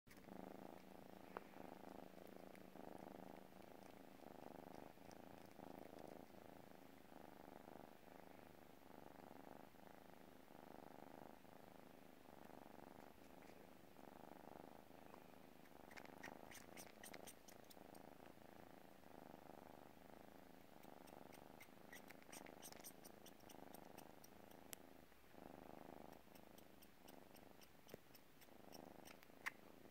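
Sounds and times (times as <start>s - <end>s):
kitten purring: 0.1s - 29.9s.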